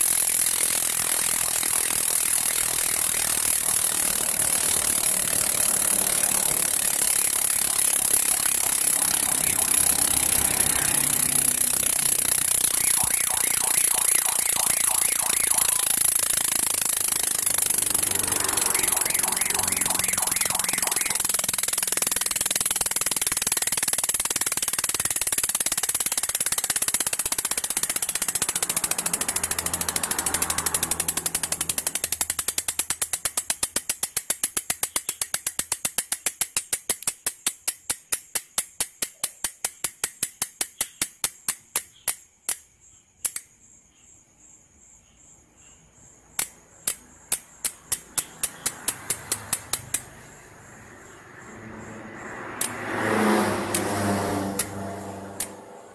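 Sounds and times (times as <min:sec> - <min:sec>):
bicycle freehub ratcheting: 0:00.0 - 0:42.6, 0:46.4 - 0:50.3, 0:55.4 - 0:55.6.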